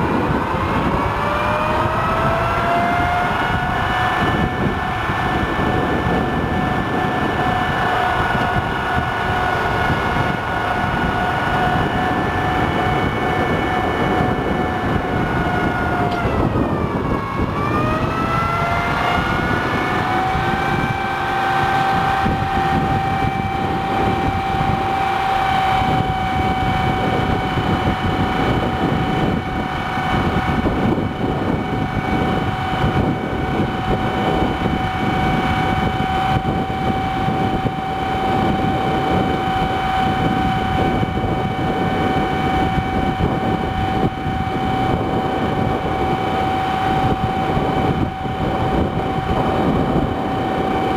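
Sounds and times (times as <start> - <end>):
truck engine rumble with whine: 0.0 - 50.9.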